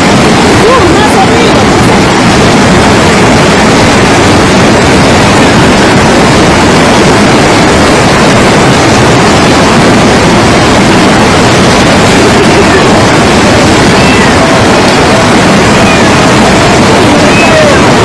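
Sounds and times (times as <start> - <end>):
loud steady rushing noise: 0.0 - 18.0.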